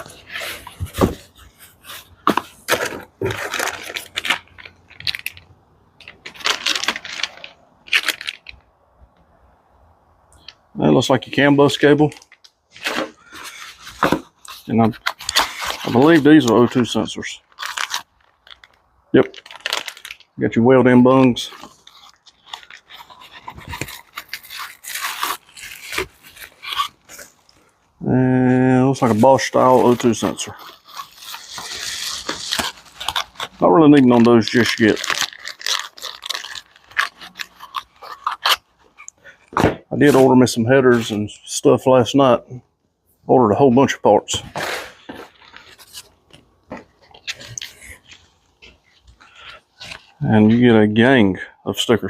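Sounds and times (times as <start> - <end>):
plastic packaging crinkling: 0.0 - 8.8, 11.6 - 27.9, 29.0 - 40.2, 44.5 - 50.2.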